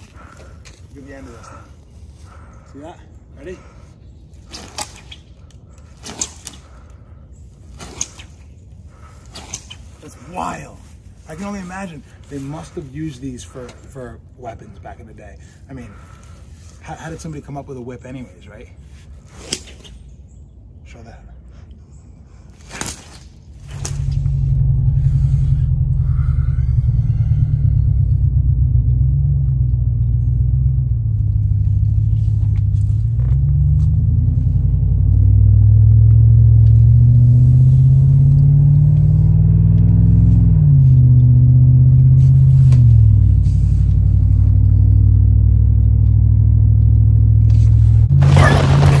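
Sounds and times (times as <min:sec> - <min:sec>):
vehicle engine and road rumble: 0:00.0 - 0:49.0.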